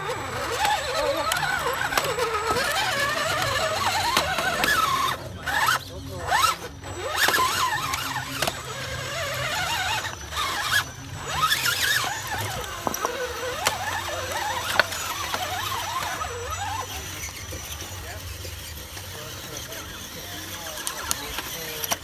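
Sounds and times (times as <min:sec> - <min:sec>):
electric motor and gears whining: 0:00.0 - 0:22.0.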